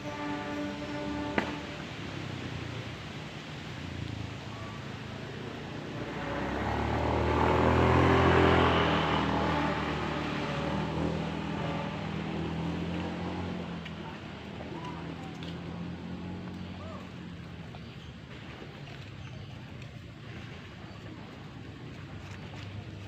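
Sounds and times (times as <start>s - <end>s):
motor vehicle passing by: 0.0s - 23.0s.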